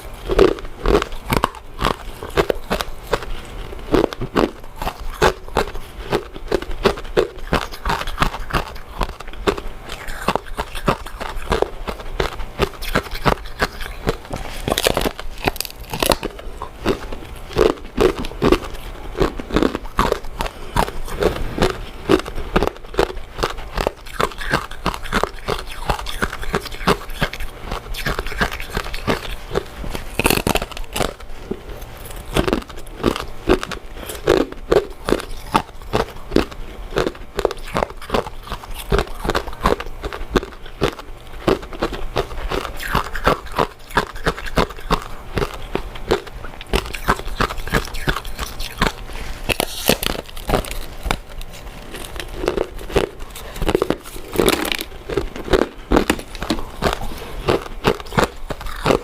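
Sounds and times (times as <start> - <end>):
chewing: 0.0 - 59.0
wet mouth clicks: 0.0 - 59.0.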